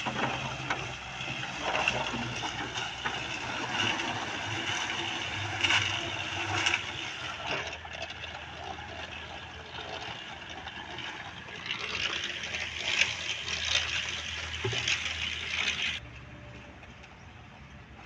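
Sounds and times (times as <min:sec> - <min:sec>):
wet concrete pouring and sloshing: 0:00.0 - 0:16.0.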